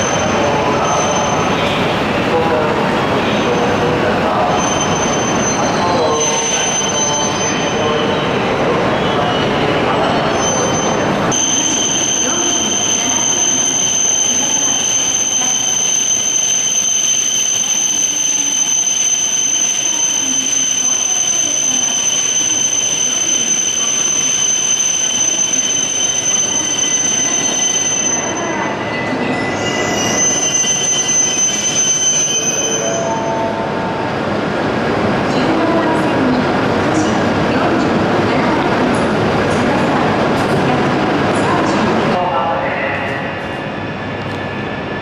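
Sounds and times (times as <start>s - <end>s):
high-pitched train whine: 0.0s - 45.0s.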